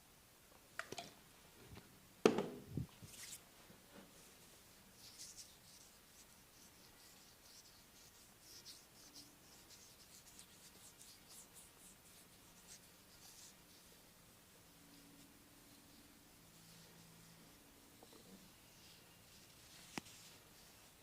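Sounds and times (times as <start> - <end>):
hands rubbing hair and scalp: 2.8 - 14.1, 14.9 - 21.0.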